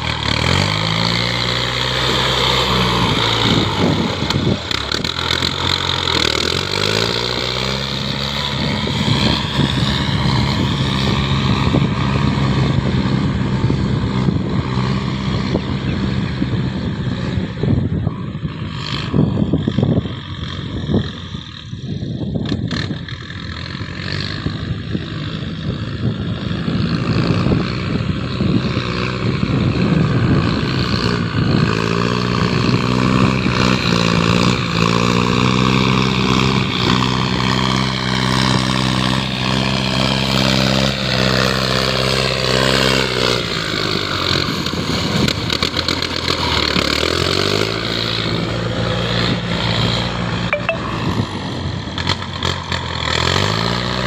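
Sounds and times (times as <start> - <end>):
engine revving: 0.0 - 21.8, 22.4 - 54.0.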